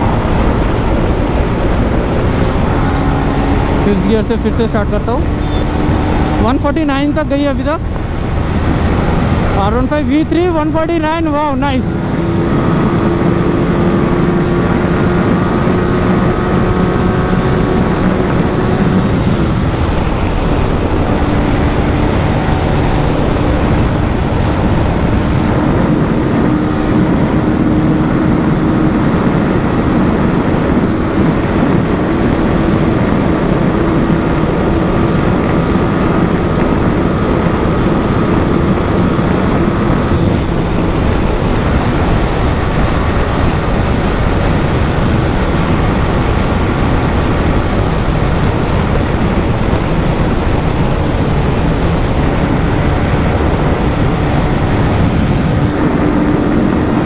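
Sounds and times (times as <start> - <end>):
motorcycle engine at high revs: 0.0 - 57.0
wind rush: 0.0 - 57.0.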